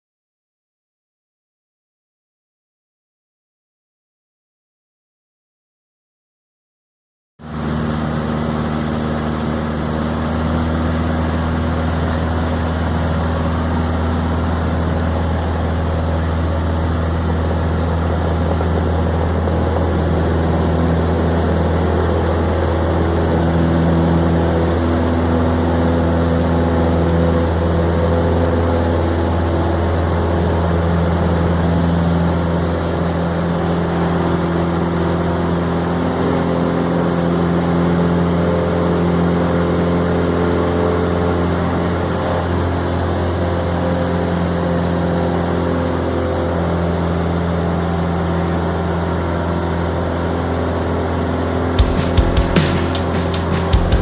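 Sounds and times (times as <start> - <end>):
light aircraft engine droning: 7.4 - 51.8.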